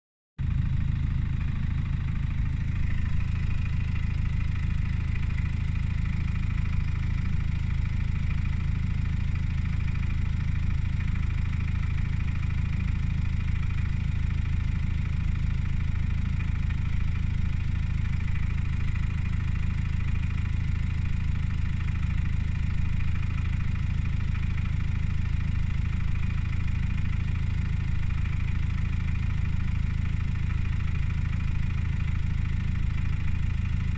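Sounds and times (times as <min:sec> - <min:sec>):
diesel engine idling with clatter: 0:00.4 - 0:33.9.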